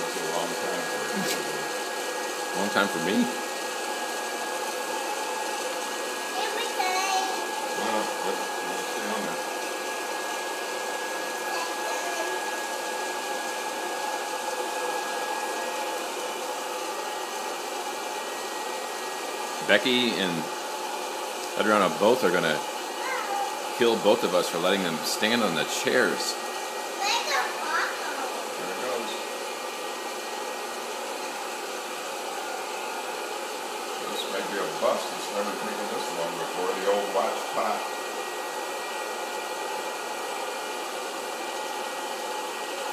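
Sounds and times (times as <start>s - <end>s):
popcorn popper fan rushing: 0.0s - 42.9s.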